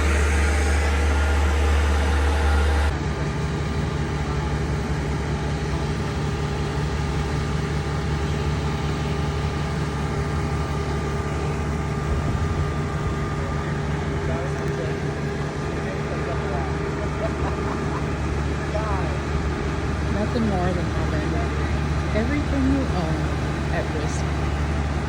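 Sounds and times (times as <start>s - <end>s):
lift engine running: 0.0s - 25.0s.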